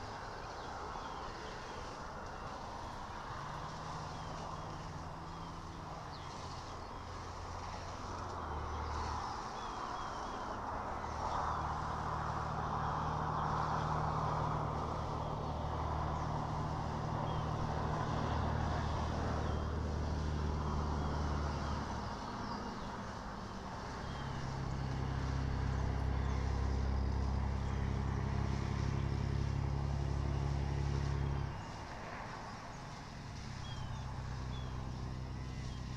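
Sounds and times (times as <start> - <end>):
traffic engine hum: 0.0 - 35.9.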